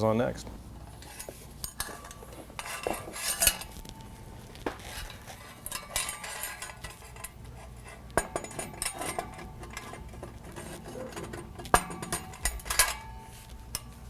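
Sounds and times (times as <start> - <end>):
metal clinking and clanking: 0.6 - 14.0.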